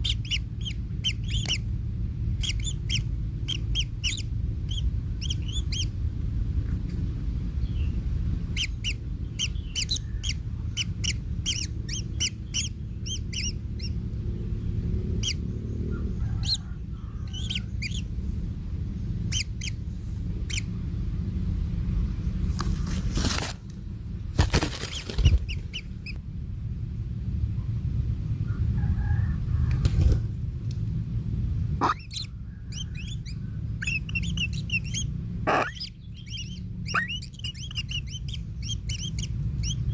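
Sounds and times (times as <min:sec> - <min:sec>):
nestlings chirping: 0:00.0 - 0:06.1, 0:07.6 - 0:26.3, 0:31.6 - 0:39.9
steady low rumble: 0:00.0 - 0:39.9.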